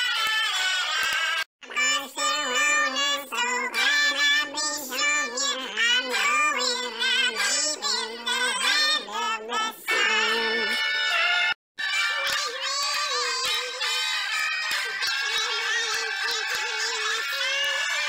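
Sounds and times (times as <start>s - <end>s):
man singing pitch-shifted: 1.6s - 11.2s, 11.8s - 18.0s.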